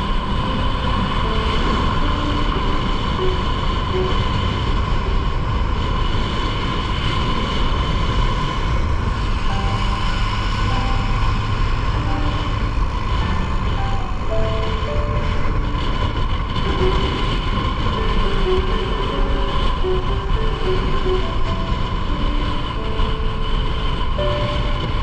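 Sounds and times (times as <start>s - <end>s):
motorcycle engine cruising: 0.0s - 25.0s
wind rumble on microphone: 0.0s - 25.0s.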